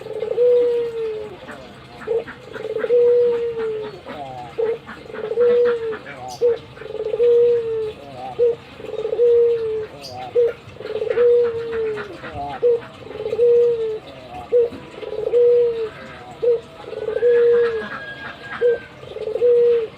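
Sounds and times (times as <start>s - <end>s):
dove cooing: 0.0s - 19.9s.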